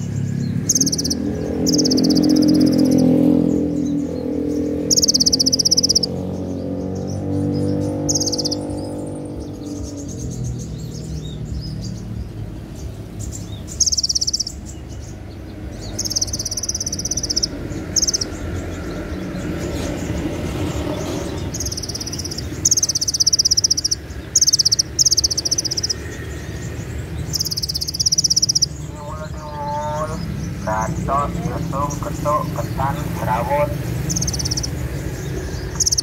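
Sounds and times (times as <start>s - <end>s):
bird singing buzzy trills: 0.0s - 36.0s
low street hum: 0.0s - 36.0s.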